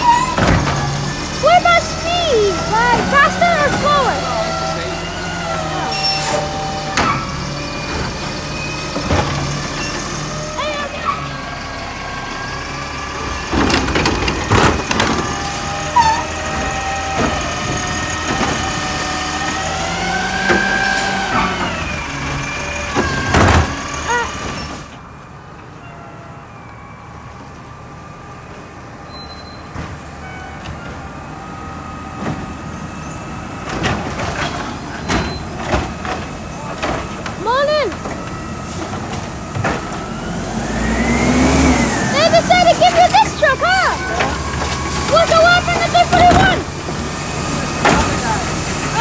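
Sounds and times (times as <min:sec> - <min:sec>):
garbage truck engine whining: 0:00.0 - 0:49.0.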